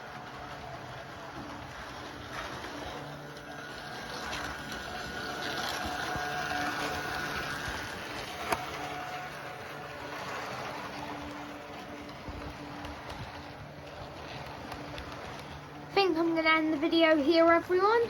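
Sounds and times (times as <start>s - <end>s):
thin whining tones: 0.0s - 18.0s
train running: 0.0s - 18.0s.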